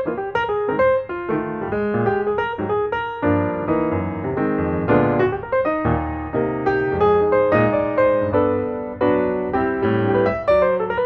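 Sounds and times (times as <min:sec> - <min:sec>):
background piano music: 0:00.0 - 0:11.0.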